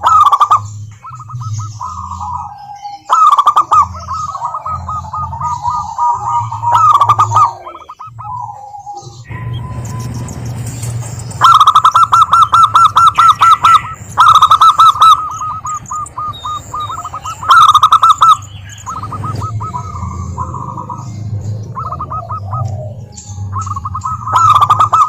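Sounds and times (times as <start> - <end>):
doves calling in staccato runs: 0.0 - 25.0.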